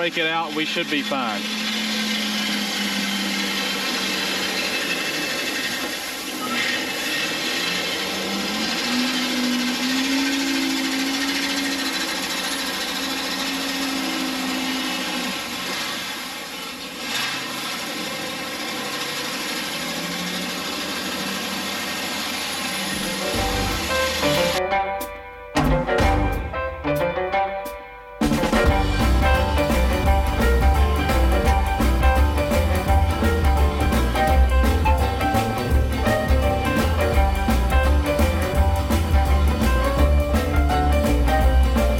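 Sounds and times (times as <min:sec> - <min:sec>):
truck engine: 0:00.0 - 0:27.3, 0:28.2 - 0:41.9.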